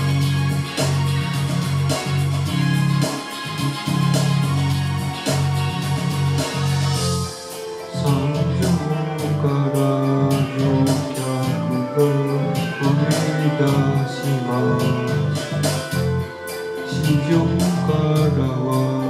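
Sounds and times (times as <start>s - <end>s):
instrumental karaoke backing track: 0.0s - 19.0s.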